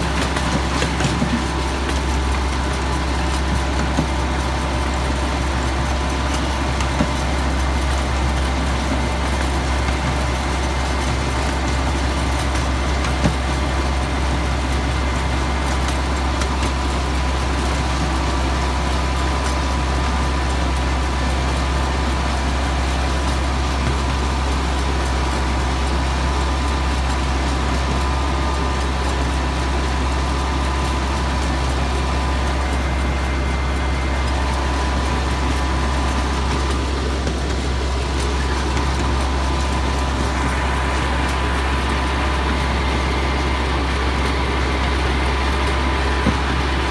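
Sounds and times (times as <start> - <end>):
small locomotive engine running: 0.0 - 46.9.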